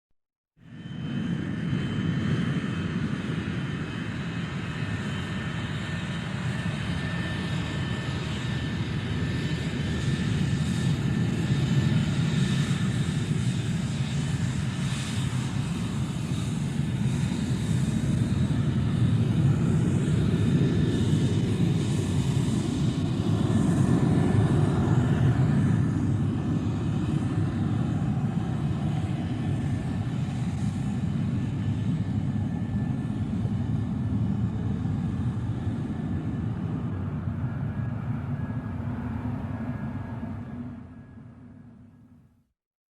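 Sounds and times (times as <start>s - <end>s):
jet engines rumbling: 0.7s - 42.0s.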